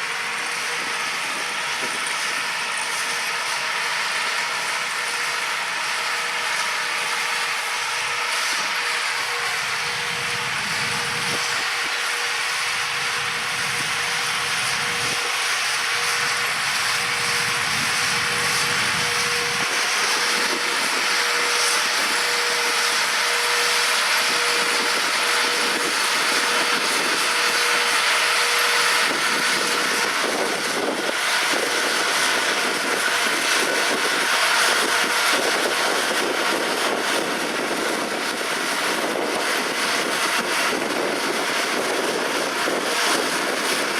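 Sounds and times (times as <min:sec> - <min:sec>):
thin steady whine: 0:00.0 - 0:43.9
tractors and combines running: 0:00.0 - 0:43.9.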